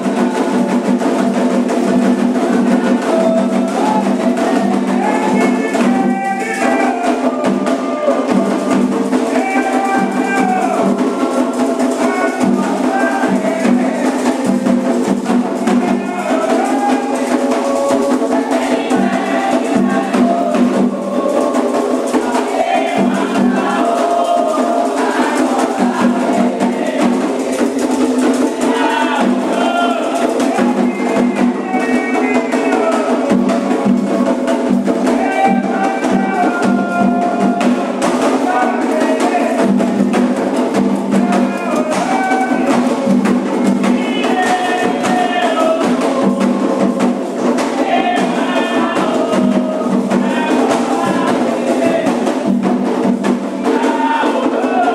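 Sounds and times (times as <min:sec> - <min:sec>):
group singing chants: 0:00.0 - 0:54.9
hand drums and percussion: 0:00.0 - 0:54.9.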